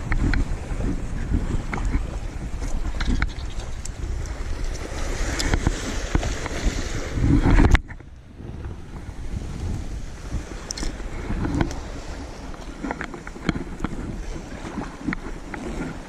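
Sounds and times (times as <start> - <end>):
sea noise: 0.0 - 16.0
wind rushing over microphone: 0.0 - 16.0.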